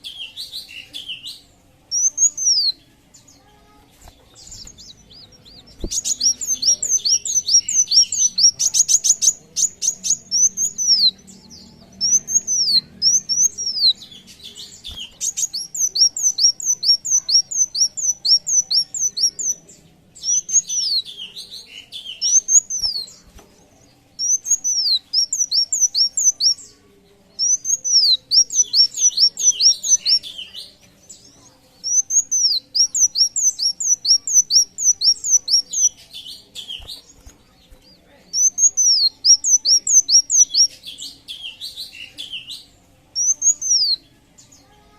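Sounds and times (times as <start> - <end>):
small songbird singing: 0.0 - 44.9.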